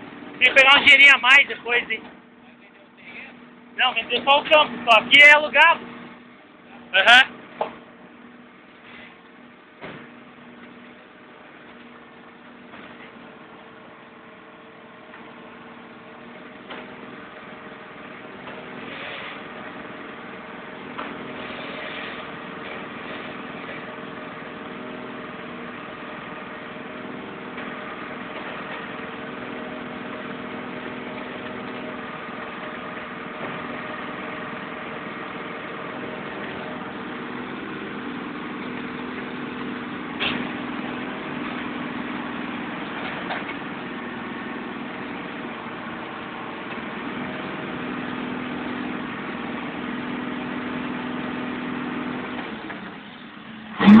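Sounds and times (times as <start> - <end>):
heavy truck engine idling: 0.0 - 54.0.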